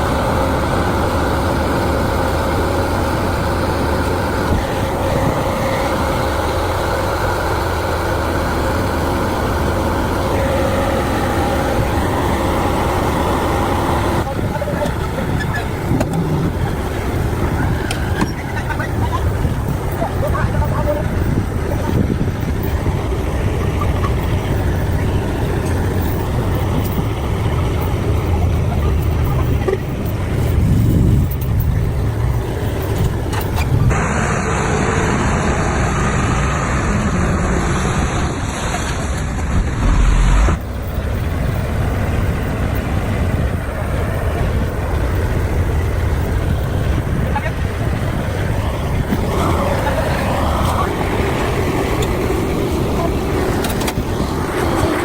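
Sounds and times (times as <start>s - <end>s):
bright noisy engine sound: 0.0s - 55.0s
heavy diesel machinery rumble: 0.0s - 55.0s.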